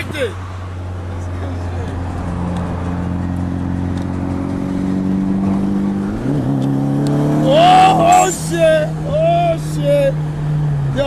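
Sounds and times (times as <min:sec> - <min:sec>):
road and wind noise: 0:00.0 - 0:11.0
car engine accelerating: 0:00.6 - 0:11.0.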